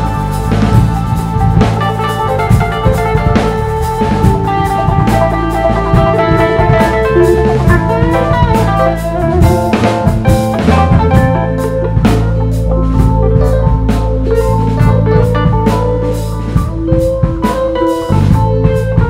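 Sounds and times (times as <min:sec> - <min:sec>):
drum kit beat: 0:00.0 - 0:19.0
electric guitar notes ringing: 0:00.0 - 0:19.0
live rock band playing: 0:00.0 - 0:19.0.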